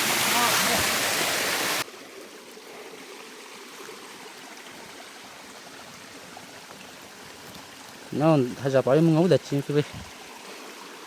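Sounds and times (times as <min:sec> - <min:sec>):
small stream flowing: 0:00.0 - 0:11.0.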